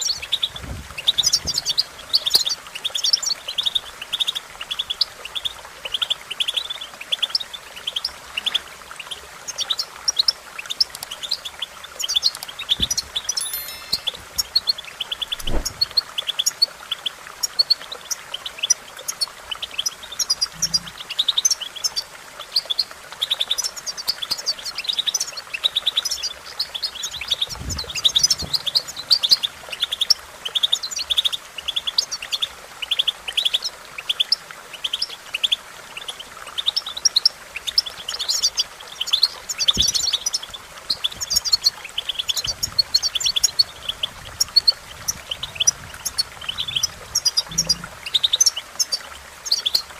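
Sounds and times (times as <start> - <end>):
goldfinch twittering and trilling: 0.0 - 49.9.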